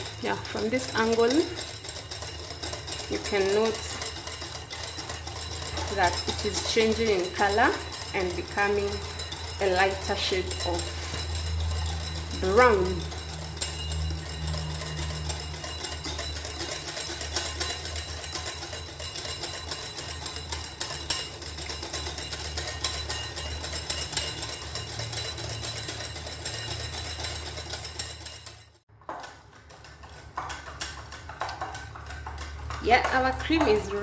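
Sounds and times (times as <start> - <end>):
whisk clattering against bowl: 0.0 - 34.0.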